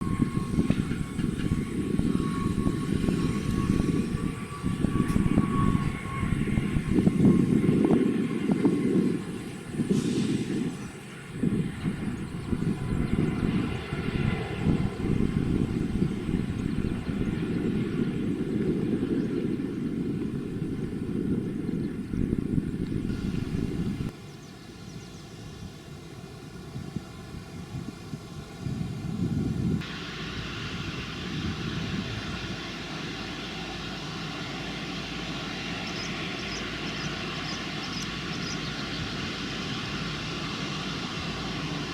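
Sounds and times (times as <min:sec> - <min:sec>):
jet engines rumbling: 0:00.0 - 0:41.9.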